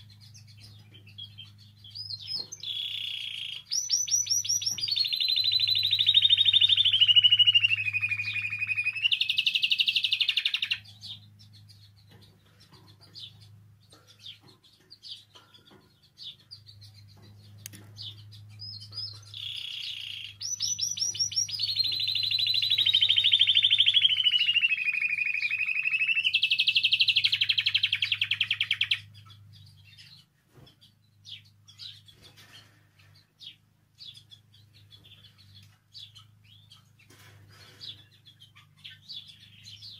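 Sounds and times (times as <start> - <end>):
canary trilling song: 0.0 - 39.9
soft bird chirps: 0.0 - 39.9.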